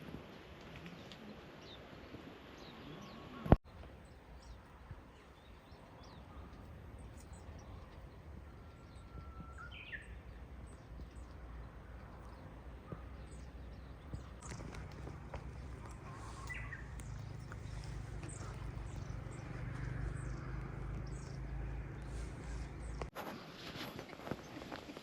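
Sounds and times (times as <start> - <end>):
songbirds chirping: 0.2 - 25.0.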